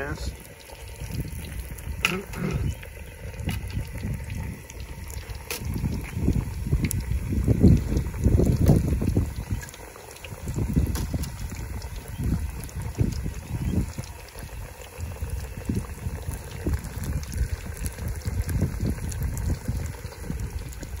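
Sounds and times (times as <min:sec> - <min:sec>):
hot oil bubbling and crackling: 0:00.0 - 0:21.0.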